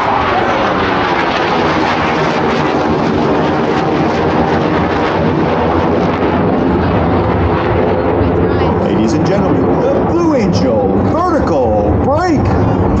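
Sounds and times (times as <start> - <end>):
jet roar overhead: 0.0 - 13.0.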